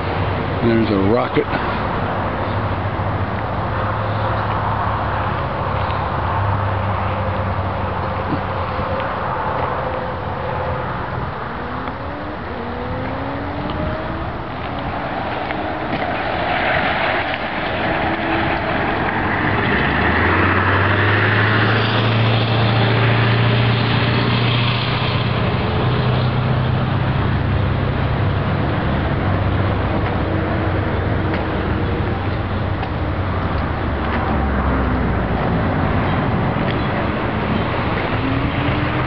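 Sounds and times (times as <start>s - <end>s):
low engine drone: 0.0s - 39.0s
road vehicle rush: 0.0s - 39.0s.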